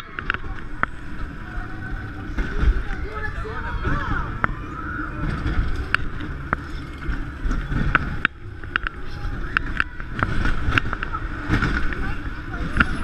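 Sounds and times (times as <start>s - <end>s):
clicks and knocks of wheels: 0.0s - 13.0s
roller coaster rolling rumble: 0.0s - 13.0s.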